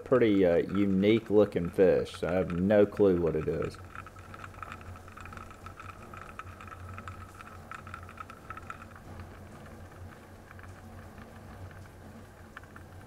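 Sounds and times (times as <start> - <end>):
faint crackling clicks: 0.0 - 13.0
low underwater hum: 0.0 - 13.0.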